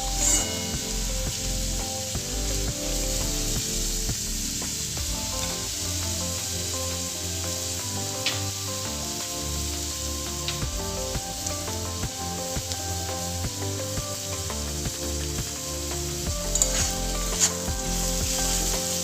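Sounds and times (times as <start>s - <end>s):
background music: 0.0s - 19.0s
onions sizzling in oil: 0.0s - 19.0s.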